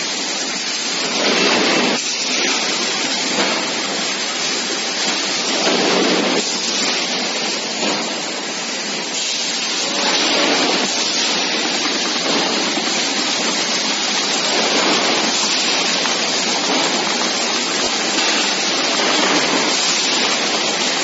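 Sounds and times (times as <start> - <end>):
packing line conveyor hissing: 0.0 - 21.0.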